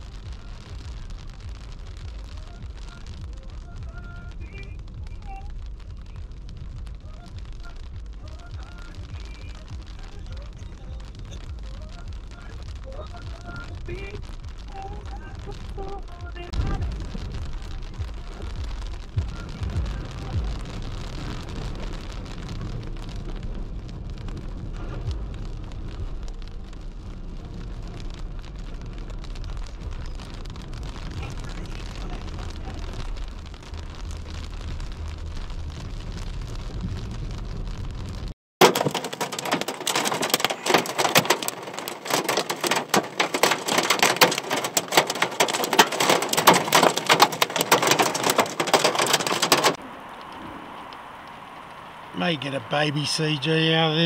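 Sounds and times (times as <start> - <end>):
car road and engine rumble: 0.0 - 54.0
hail and rain pattering: 0.0 - 54.0.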